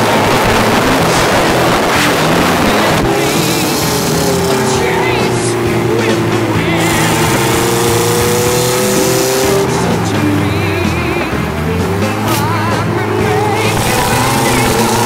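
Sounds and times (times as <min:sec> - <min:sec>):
music playing: 0:00.0 - 0:15.0
sports car engine running: 0:00.0 - 0:15.0
wind and road noise: 0:00.0 - 0:15.0.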